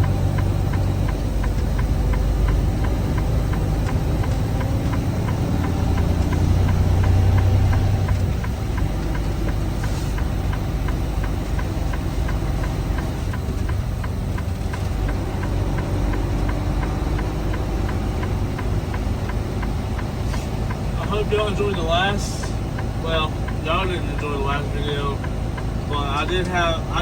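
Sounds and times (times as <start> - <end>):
light ticking: 0.0 - 27.0
truck diesel engine droning: 0.0 - 27.0.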